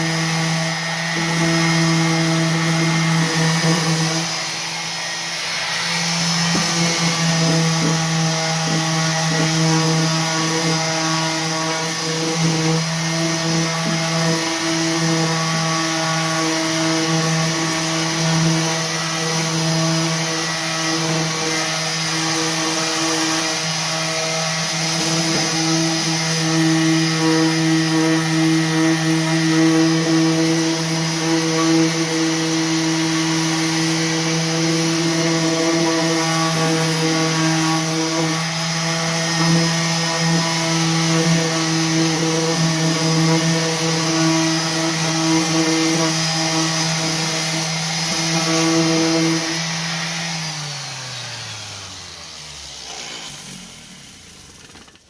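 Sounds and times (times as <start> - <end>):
orbital sander on wood: 0.0 - 55.0.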